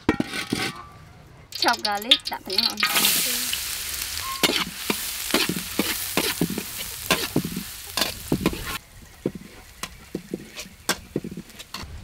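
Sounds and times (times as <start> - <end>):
garlic sizzling in hot oil: 1.6 - 11.9
metal spatula scraping wok: 1.6 - 11.9.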